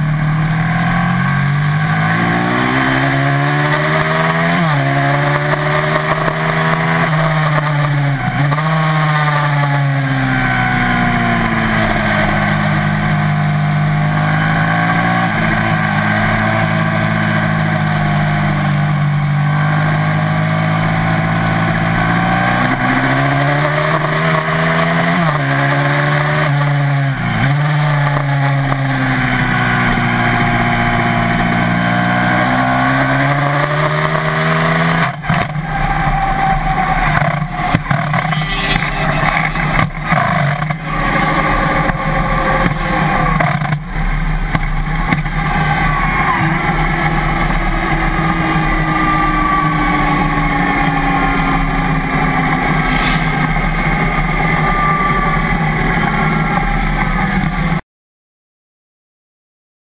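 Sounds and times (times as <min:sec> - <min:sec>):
motorcycle engine at high revs: 0:00.0 - 0:57.8.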